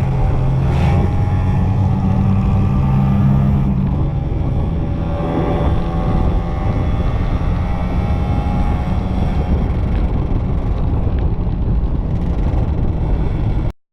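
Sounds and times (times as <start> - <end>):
two-stroke motorcycle engines: 0.0 - 13.7
wind rumble on microphone: 0.0 - 13.7.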